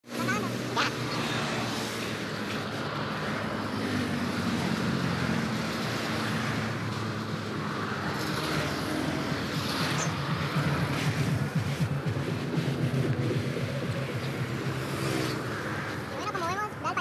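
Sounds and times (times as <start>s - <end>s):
cars passing on wet road: 0.1s - 17.0s.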